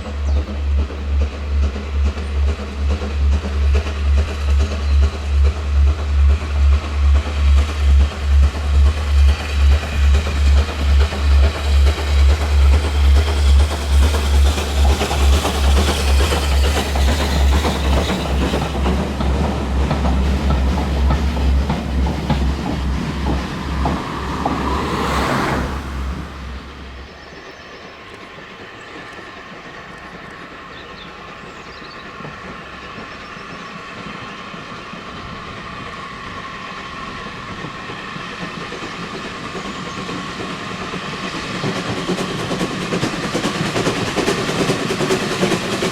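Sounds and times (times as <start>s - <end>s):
train wheels clattering over rail joints: 0.0s - 45.9s.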